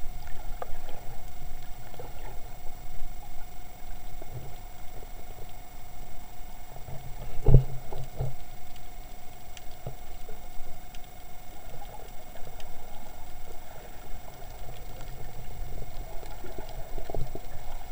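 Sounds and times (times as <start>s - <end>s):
faint steady tone: 0.0s - 17.9s
muffled underwater water rumble: 0.0s - 17.9s.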